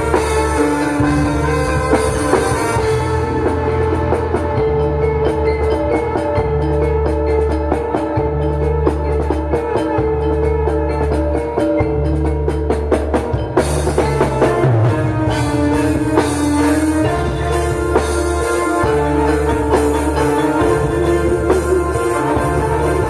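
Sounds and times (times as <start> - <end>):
hand drums: 0.0 - 23.0
metallophones struck with mallets: 0.0 - 23.0.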